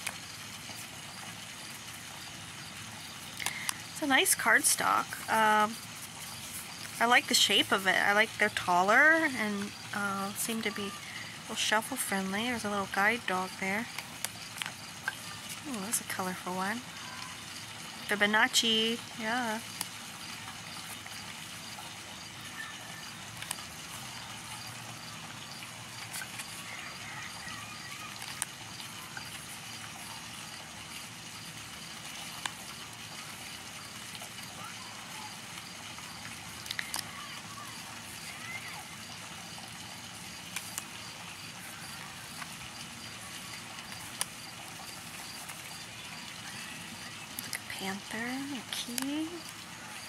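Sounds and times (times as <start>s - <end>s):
steady hiss: 0.0s - 50.0s.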